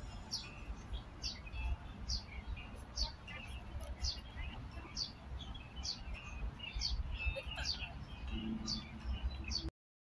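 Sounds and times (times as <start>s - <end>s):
soft bird chirps: 0.0s - 9.7s.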